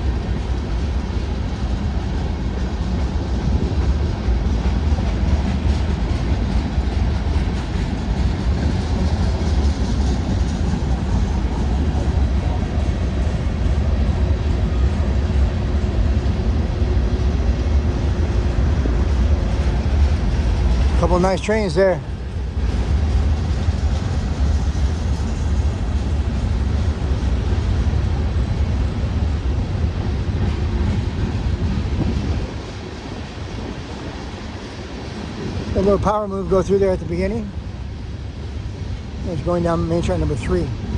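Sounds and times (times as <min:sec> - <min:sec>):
freight train rolling past: 0:00.0 - 0:40.9.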